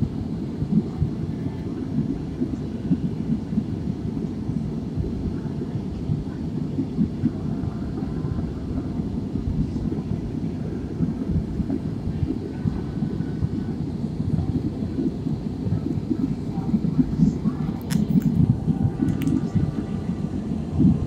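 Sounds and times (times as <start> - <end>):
jet cabin engine rumble: 0.0 - 21.0.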